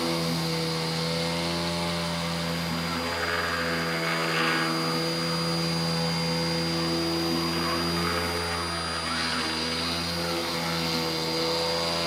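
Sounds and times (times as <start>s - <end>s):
bit milling wood: 0.0s - 12.0s
spindle motor running: 0.0s - 12.0s.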